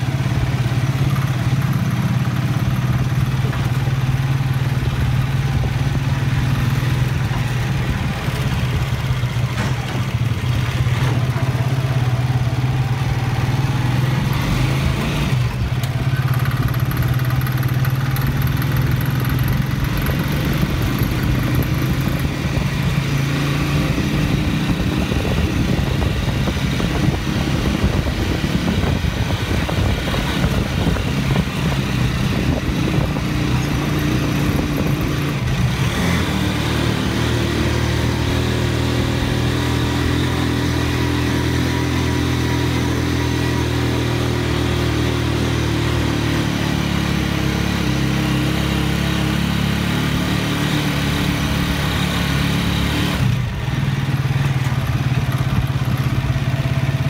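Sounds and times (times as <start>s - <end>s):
motorcycle engine running: 0.0s - 57.0s
rattling over dirt road: 0.0s - 57.0s.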